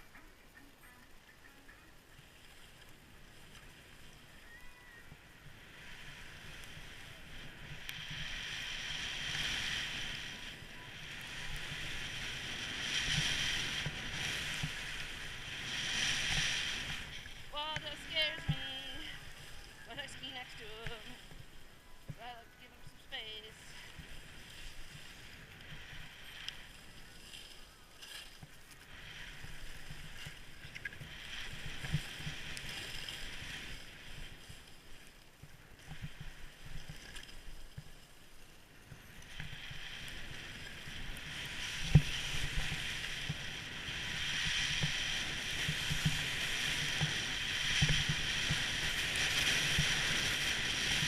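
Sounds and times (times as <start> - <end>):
skis scraping over snow: 1.7 - 51.0.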